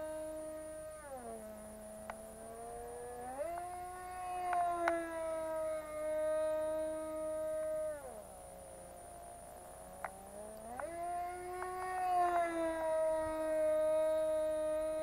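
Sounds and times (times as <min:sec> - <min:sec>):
model airplane engine whine: 0:00.0 - 0:15.0.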